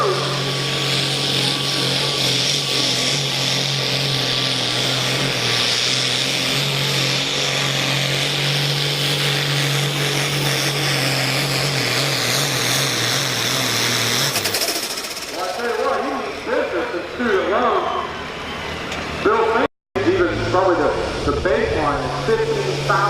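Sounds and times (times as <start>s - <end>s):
tractor engine drone under load: 0.0s - 23.0s.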